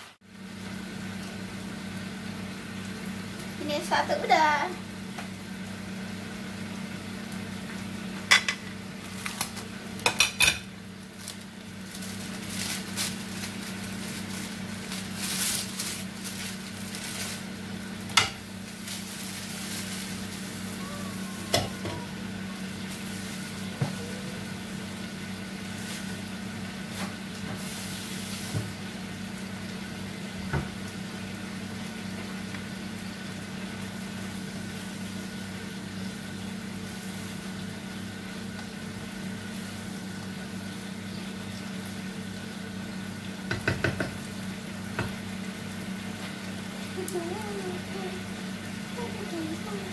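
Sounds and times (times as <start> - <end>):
frying sizzle: 0.0 - 49.9.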